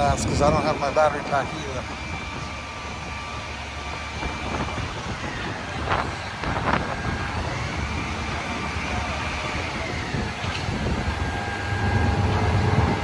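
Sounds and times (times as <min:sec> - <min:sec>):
street traffic rumble: 0:00.0 - 0:13.0
wind buffeting microphone: 0:00.0 - 0:13.0.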